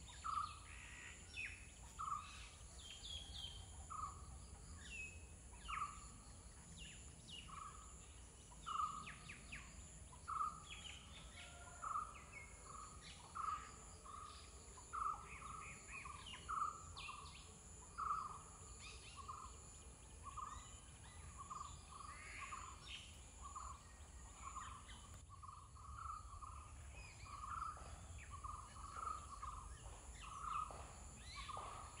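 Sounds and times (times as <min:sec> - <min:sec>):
faint high insect hum: 0:00.0 - 0:32.0.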